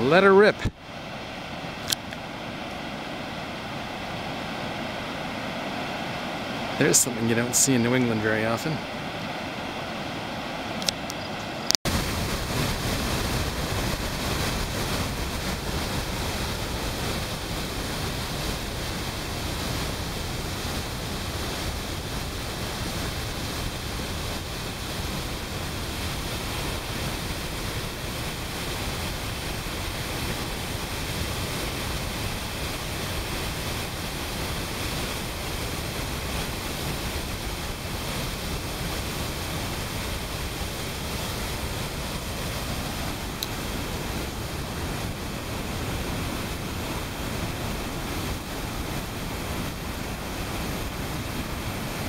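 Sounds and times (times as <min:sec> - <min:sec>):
floodwater rushing from dam outlet: 0:00.0 - 0:52.0.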